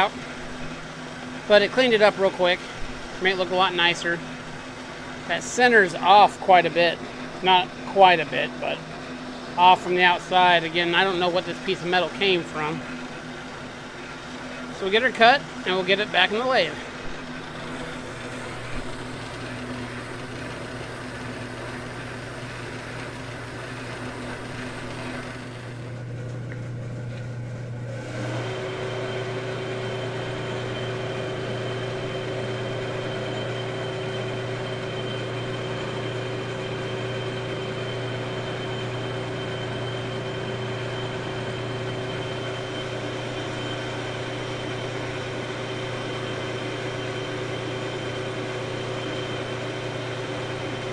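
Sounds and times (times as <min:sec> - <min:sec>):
machine motor humming and whining: 0:00.0 - 0:50.9.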